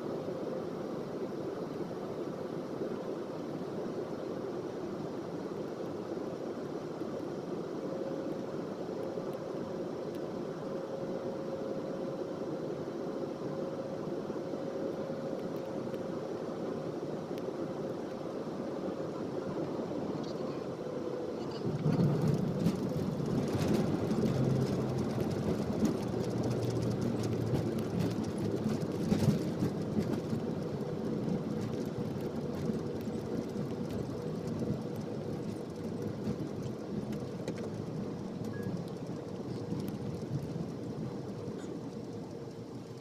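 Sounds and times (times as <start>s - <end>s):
jet engine and rolling rumble: 0.0s - 43.0s.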